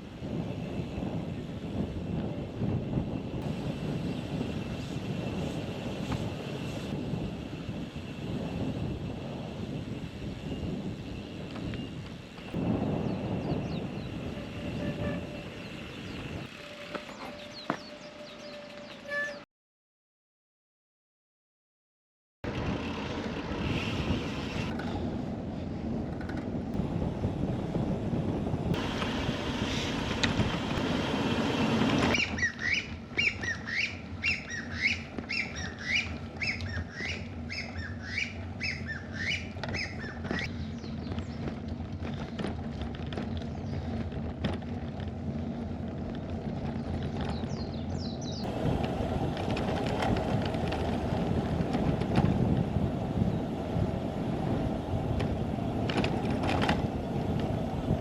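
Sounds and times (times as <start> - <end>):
wind rumbling on microphone: 0.0 - 19.3, 22.5 - 58.0.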